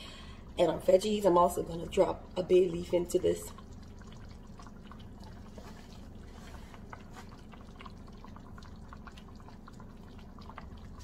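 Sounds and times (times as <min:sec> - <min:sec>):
faint low hum: 0:00.0 - 0:11.0
stew bubbles popping: 0:01.6 - 0:11.0.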